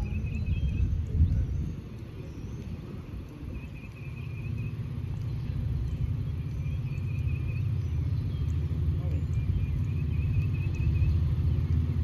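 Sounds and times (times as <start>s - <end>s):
faint high chirps: 0.0s - 11.8s
diesel locomotive rumble: 0.0s - 12.0s.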